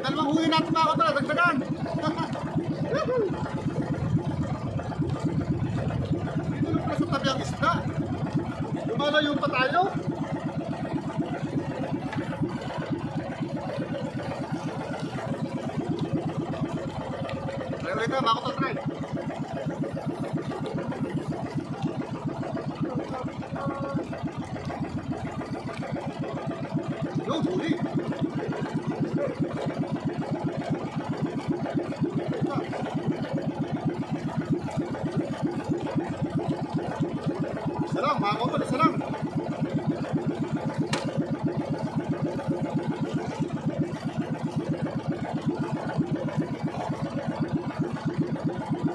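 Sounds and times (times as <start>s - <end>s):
boat engine chugging: 0.0s - 48.9s.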